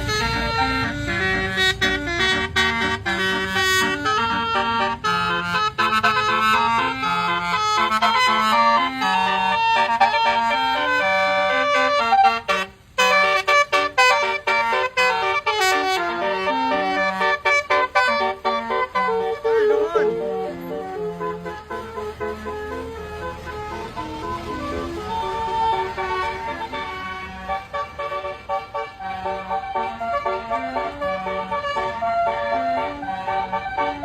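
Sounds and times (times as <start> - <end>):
musical bus horn melody: 0.0 - 34.0.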